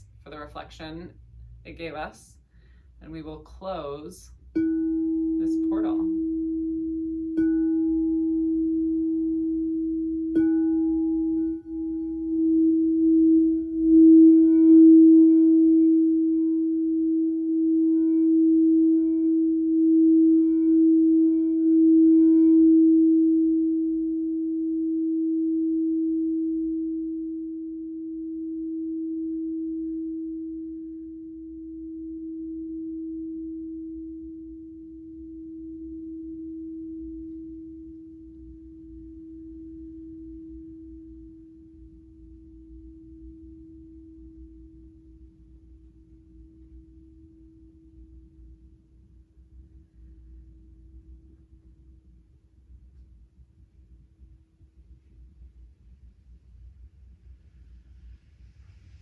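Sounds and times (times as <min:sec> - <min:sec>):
singing bowl ringing: 0:03.1 - 0:51.4.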